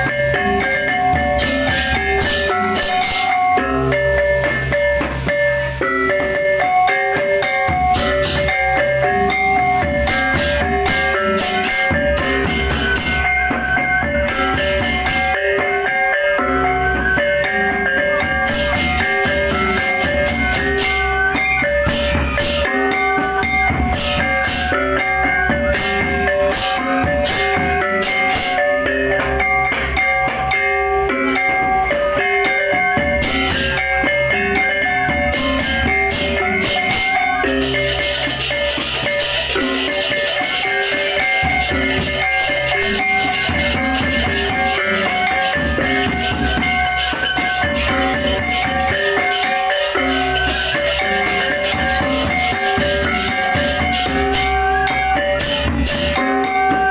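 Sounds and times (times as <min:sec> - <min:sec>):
drums: 0:00.0 - 0:56.9
gongs ringing: 0:00.0 - 0:56.9
rapid clashing cymbals: 0:00.0 - 0:56.9.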